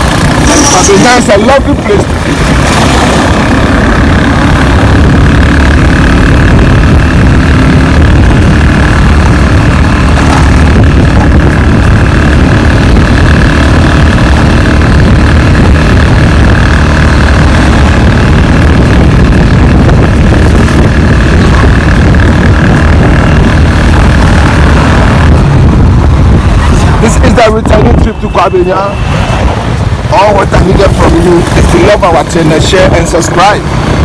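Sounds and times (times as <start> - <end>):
vehicle rumbling on road: 0.0 - 34.0.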